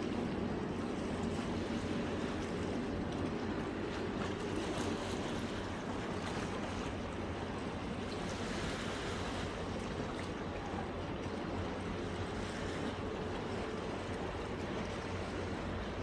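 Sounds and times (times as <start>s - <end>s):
seawater lapping against rocks: 0.0s - 16.0s.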